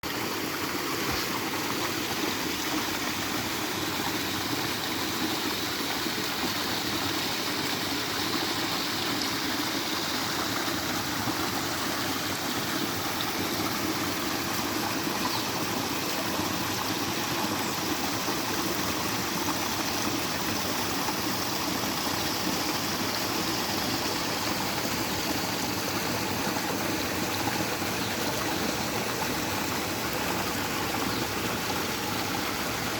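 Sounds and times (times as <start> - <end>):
flowing water rushing: 0.0 - 32.9.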